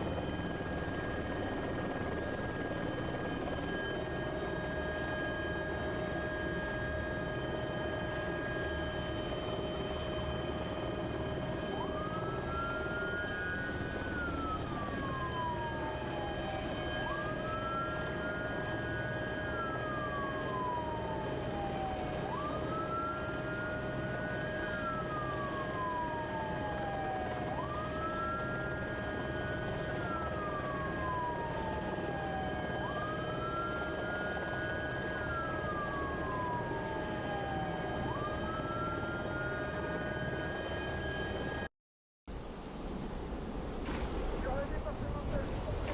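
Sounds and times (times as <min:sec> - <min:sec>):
siren wailing: 0:00.0 - 0:41.7.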